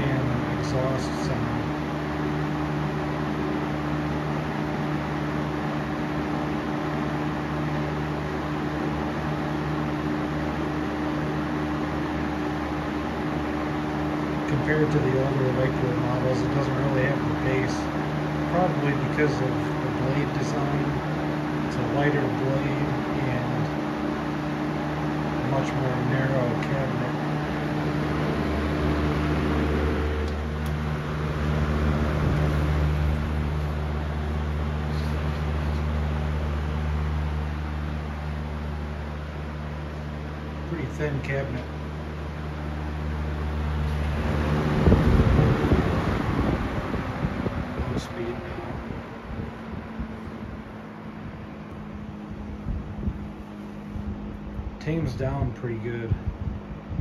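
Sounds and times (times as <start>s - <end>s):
box fan air rushing: 0.0s - 57.0s
fan motor hum: 0.0s - 57.0s.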